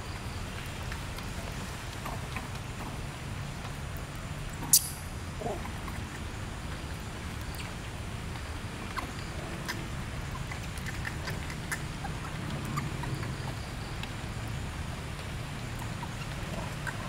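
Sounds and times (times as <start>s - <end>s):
water dripping: 0.0s - 17.0s.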